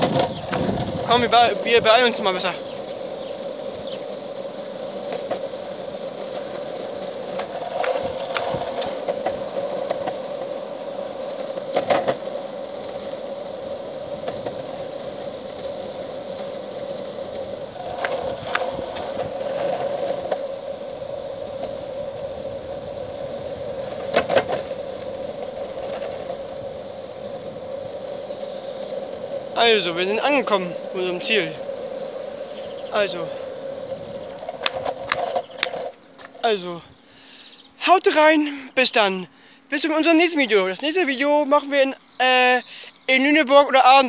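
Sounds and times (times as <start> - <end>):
skateboard wheels rolling on asphalt: 0.0 - 44.0.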